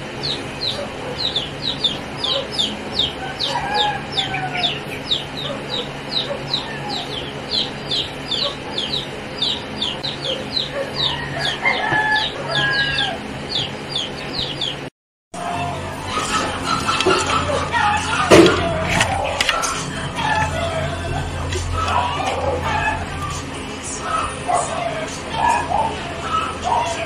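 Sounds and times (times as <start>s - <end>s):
chickens clucking: 0.0s - 27.0s
chicks peeping: 0.0s - 27.0s.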